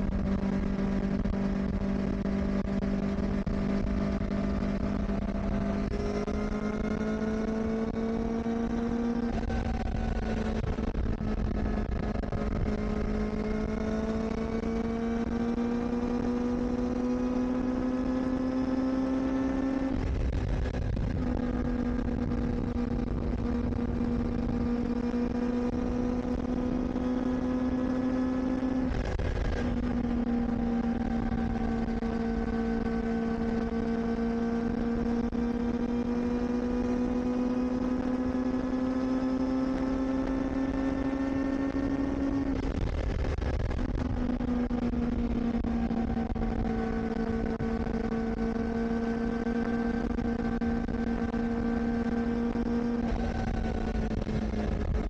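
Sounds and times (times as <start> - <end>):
motorcycle engine at high revs: 0.0 - 55.0
wind and road noise: 0.0 - 55.0.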